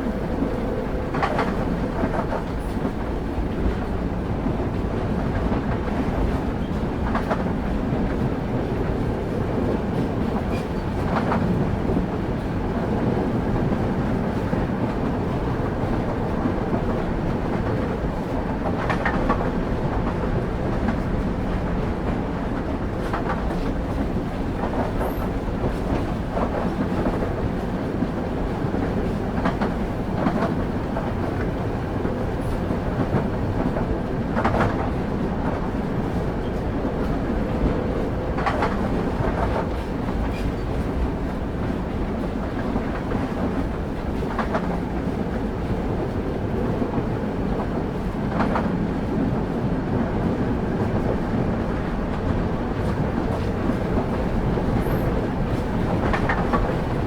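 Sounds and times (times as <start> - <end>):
train rumble: 0.0 - 57.0.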